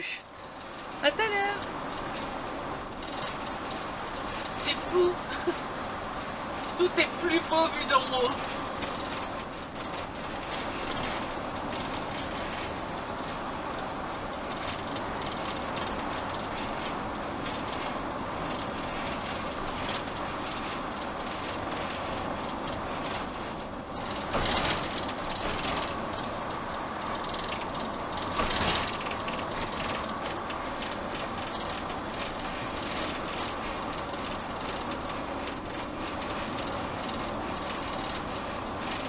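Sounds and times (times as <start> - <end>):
motorhome cab road noise: 0.0 - 39.0.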